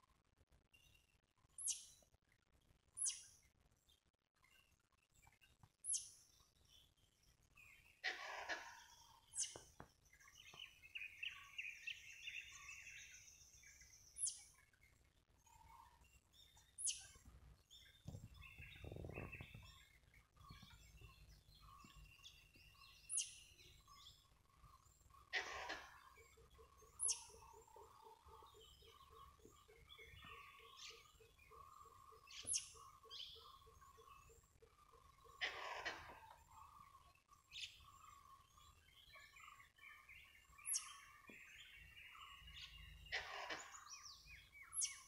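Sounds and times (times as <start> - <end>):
birds chirping: 5.2 - 45.0.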